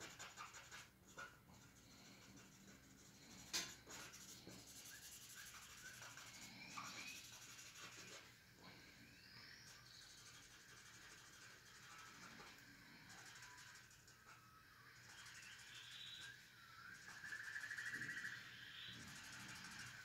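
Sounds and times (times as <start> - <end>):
blending stump rubbing on paper: 0.0 - 8.7, 9.5 - 20.0.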